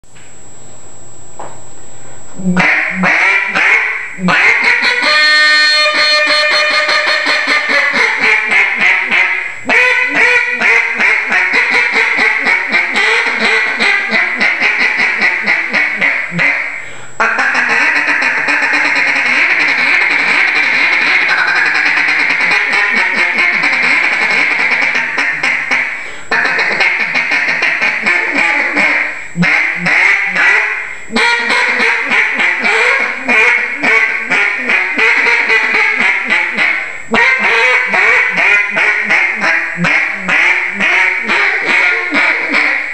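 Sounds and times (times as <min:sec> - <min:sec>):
duck call quacking: 0:02.5 - 0:42.9.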